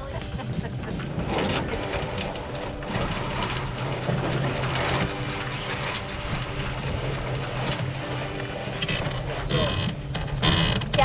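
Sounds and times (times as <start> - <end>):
boat engine running: 0.0 - 11.0
water rushing: 0.0 - 11.0.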